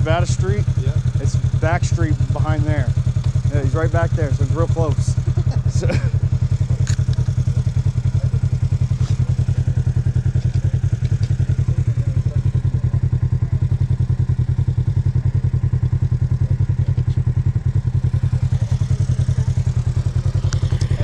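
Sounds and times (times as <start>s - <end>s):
small engine idling: 0.0s - 21.0s.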